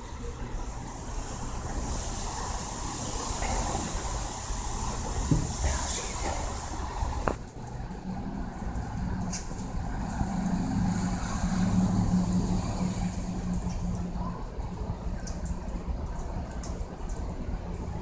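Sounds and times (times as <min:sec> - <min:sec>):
rain hissing: 0:00.0 - 0:18.0
vehicle engine humming: 0:00.0 - 0:18.0.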